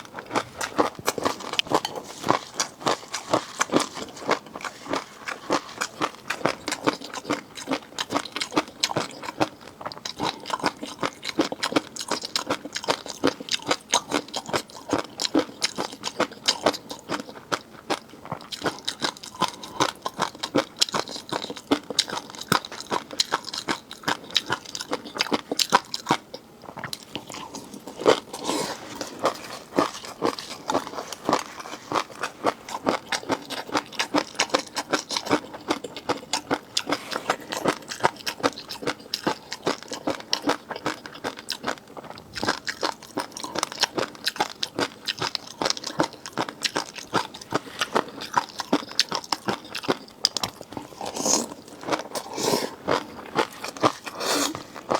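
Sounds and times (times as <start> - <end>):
crunching and chewing seafood: 0.0 - 54.9.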